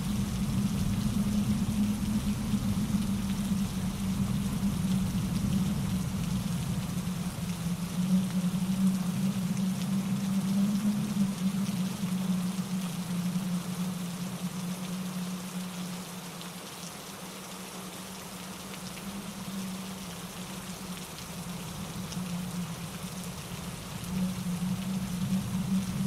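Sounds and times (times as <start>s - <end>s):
raindrops ticking: 0.0s - 16.9s, 17.9s - 26.0s
steady rain falling: 0.0s - 26.0s.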